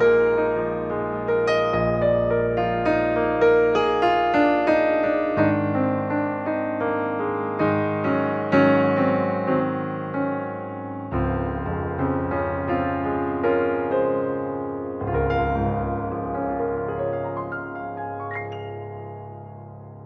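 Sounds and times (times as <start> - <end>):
background piano music: 0.0 - 20.0.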